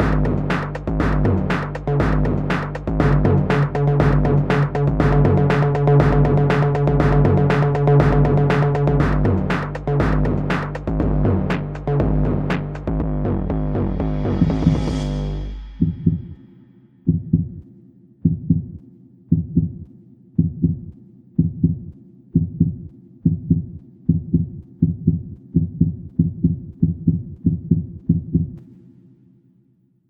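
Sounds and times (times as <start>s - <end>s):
heartbeat thumps: 0.0s - 15.0s, 15.8s - 16.4s, 17.1s - 28.6s.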